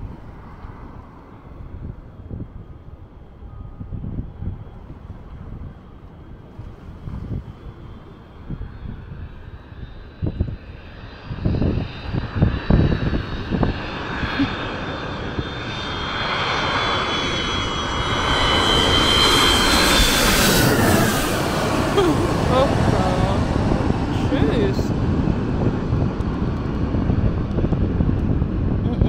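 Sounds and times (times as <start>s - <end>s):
jet airliner flying overhead: 0.0s - 29.0s.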